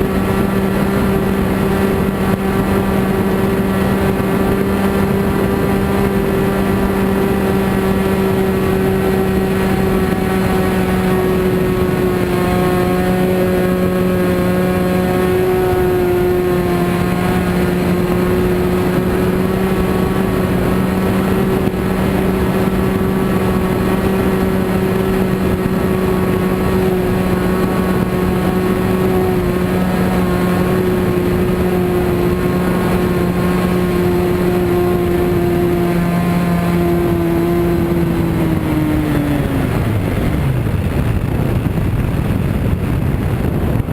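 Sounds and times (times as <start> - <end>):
model airplane engine buzzing: 0.0 - 43.9.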